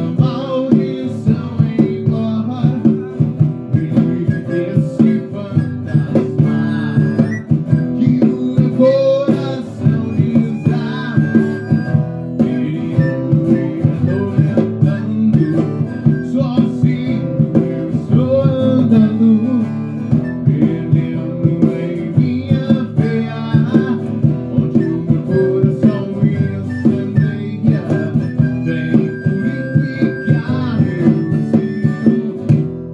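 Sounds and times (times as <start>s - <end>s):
guitar-led band music: 0.0s - 32.9s.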